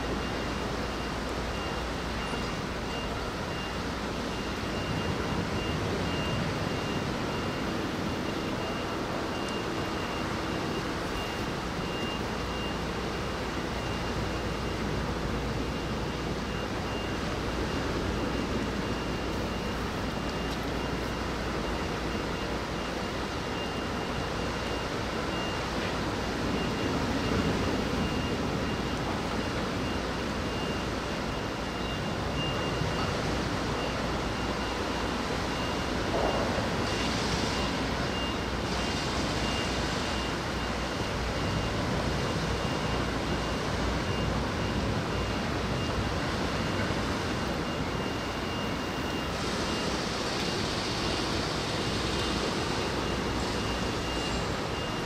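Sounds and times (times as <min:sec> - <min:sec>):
rain: 0:00.0 - 0:55.0
wind: 0:00.0 - 0:55.0.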